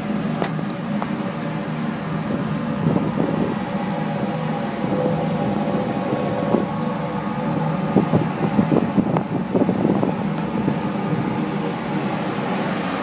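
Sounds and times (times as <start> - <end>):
boiler machinery humming: 0.0 - 13.0.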